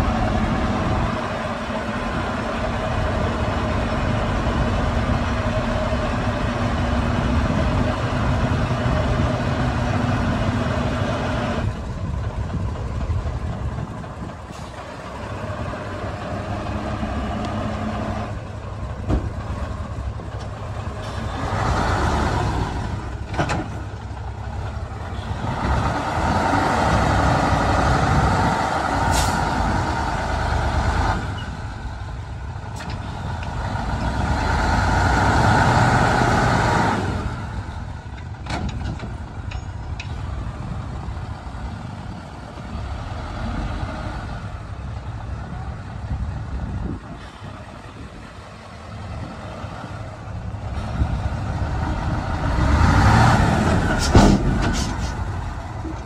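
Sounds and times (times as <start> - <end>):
diesel machinery engine rumble: 0.0 - 56.0.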